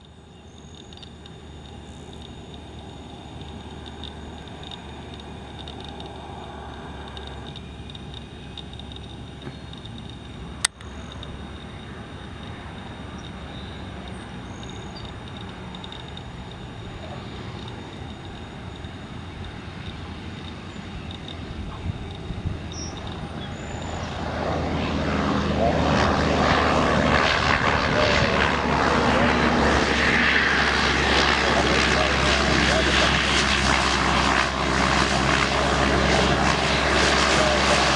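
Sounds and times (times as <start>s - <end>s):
turboprop engine drone: 0.0s - 37.9s.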